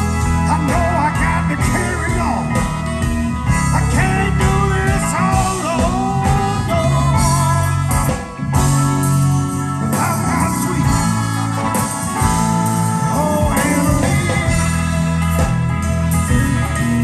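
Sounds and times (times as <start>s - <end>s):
blues-rock band playing: 0.0s - 17.0s
lead guitar bending notes: 0.0s - 17.0s.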